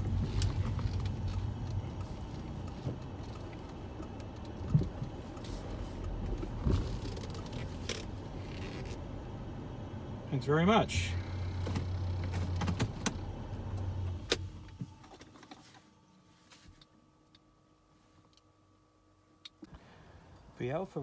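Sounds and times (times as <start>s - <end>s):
car engine rumble in cabin: 0.0s - 21.0s.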